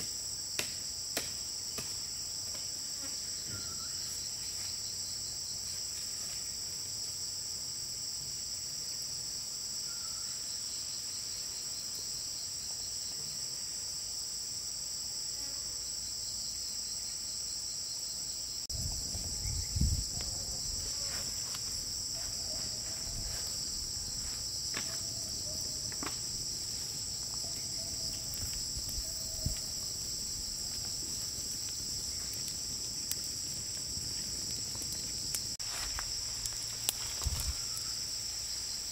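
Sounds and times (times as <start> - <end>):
insect chorus chirring: 0.0 - 38.9.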